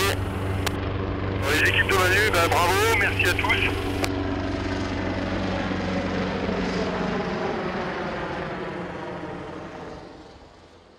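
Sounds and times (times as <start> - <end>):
helicopter flying: 0.0 - 10.9.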